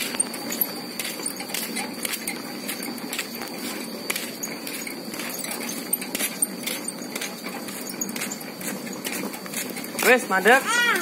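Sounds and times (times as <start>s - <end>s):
wheelbarrow wheel rumbling: 0.0s - 11.0s.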